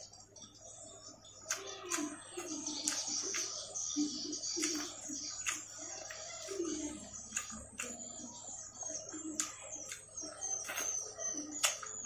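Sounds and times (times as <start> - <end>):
faint birds chirping: 0.0 - 12.0
wet chewing and smacking: 1.3 - 3.8, 4.4 - 12.0.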